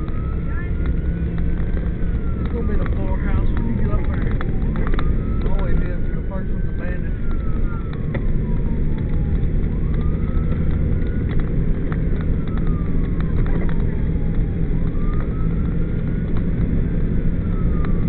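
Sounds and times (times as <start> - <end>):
vehicle engine and road rumble: 0.0 - 18.0
wailing siren: 0.0 - 18.0.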